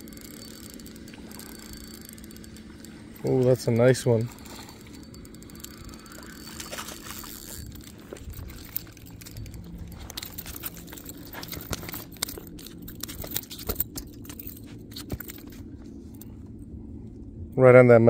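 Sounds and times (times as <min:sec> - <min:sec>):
handling clicks and rustling: 0:00.0 - 0:16.6
faint low hum: 0:00.0 - 0:18.0.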